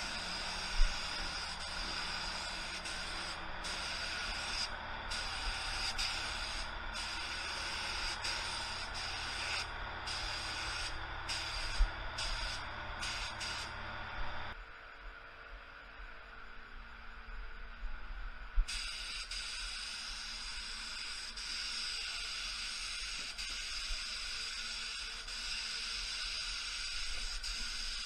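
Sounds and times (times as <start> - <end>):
spray gun hissing: 0.0 - 14.3, 18.7 - 28.0.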